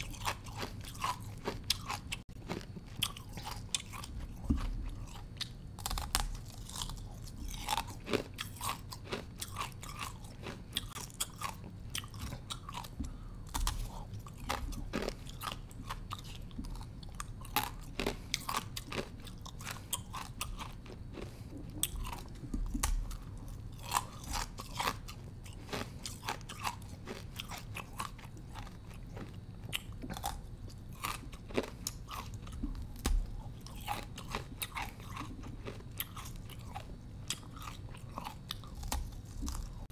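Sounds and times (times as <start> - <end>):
chewing ice: 0.0 - 39.9.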